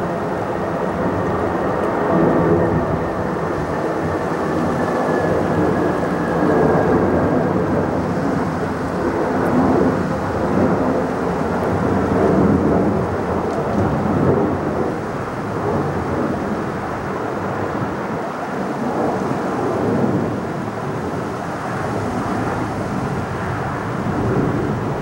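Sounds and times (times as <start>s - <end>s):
jet engine rumble overhead: 0.0s - 25.0s.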